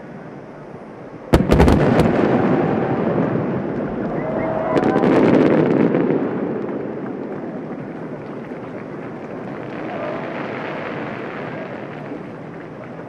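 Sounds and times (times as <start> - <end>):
distant fireworks bursting: 1.3 - 13.0
rolling rumble of echo: 1.3 - 13.0.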